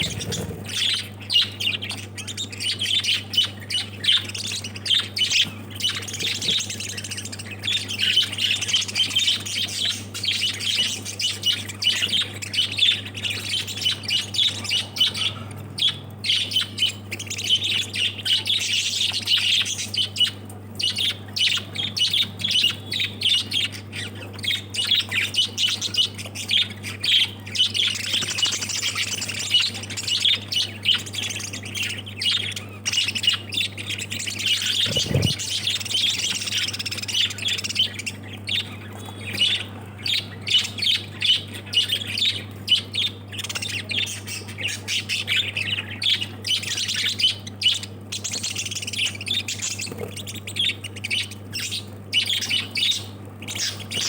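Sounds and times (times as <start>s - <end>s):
birds chirping and squawking: 0.0s - 54.0s.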